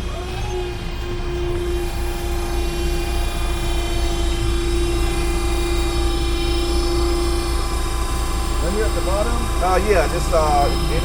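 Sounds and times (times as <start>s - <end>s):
machine drone low rumble: 0.0s - 11.0s
mid-pitched whine: 0.0s - 11.0s.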